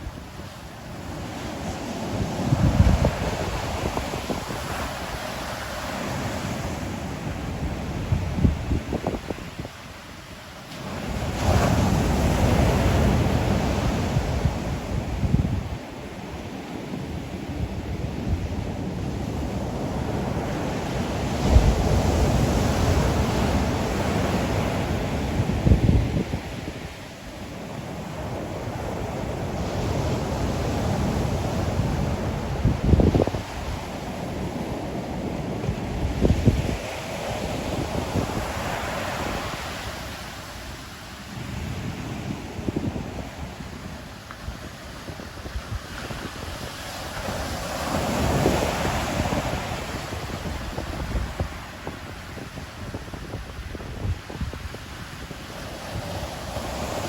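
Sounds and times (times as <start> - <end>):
wind buffeting microphone: 0.0 - 9.9, 10.9 - 57.0
ocean surf washing: 0.0 - 57.0.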